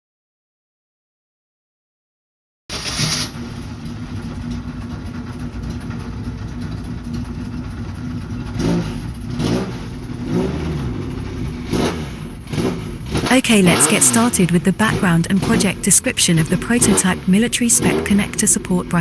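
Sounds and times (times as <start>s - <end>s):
car engine revving: 2.7s - 19.0s.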